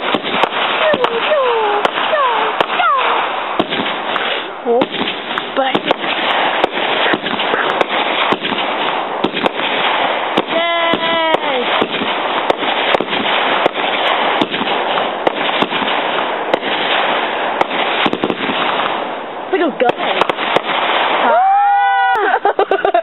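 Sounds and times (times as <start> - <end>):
fireworks crackling and popping: 0.0 - 23.0.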